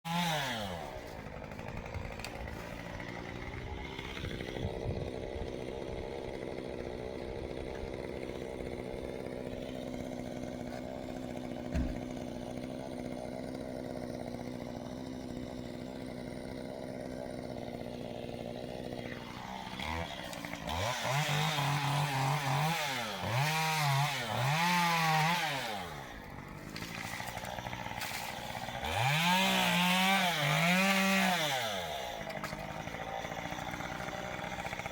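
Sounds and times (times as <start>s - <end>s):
chainsaw engine idling and revving: 0.0s - 34.9s.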